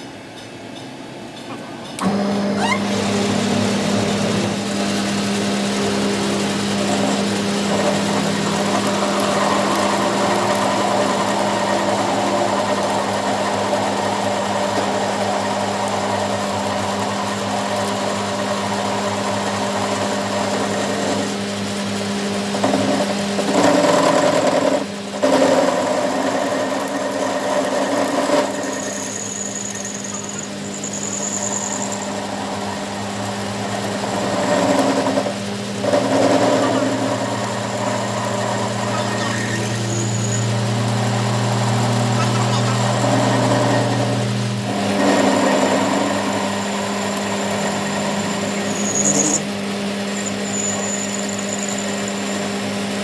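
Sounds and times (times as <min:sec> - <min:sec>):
workshop machine humming: 0:00.0 - 0:53.0.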